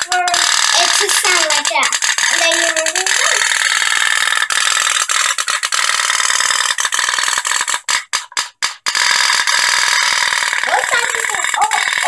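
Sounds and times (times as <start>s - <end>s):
toy steamboat putt-putt: 0.0s - 12.0s.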